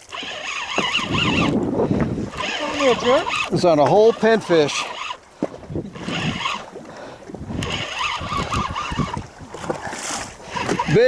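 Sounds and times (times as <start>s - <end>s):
water against boat hull: 0.0s - 11.0s
wind on microphone: 0.1s - 11.0s.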